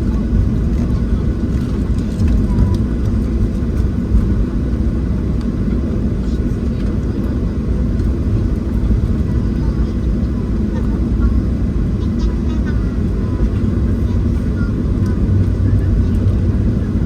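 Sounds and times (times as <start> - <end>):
jet engines idling: 0.0 - 17.0
low rumble through airframe: 0.0 - 17.0.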